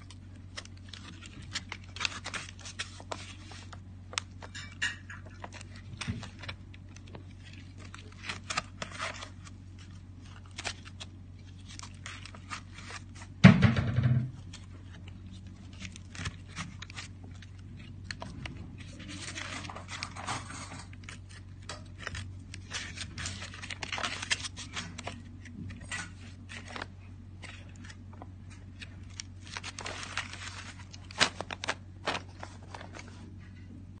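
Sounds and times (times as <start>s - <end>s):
stiff book pages crackling: 0.0s - 13.4s, 14.4s - 33.4s
faint steady hum: 0.0s - 34.0s.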